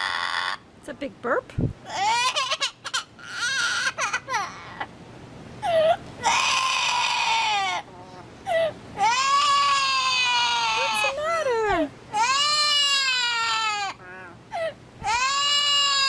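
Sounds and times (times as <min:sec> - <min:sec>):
parrot calling: 0:00.0 - 0:00.6, 0:01.9 - 0:04.9, 0:05.6 - 0:14.4, 0:15.0 - 0:16.0.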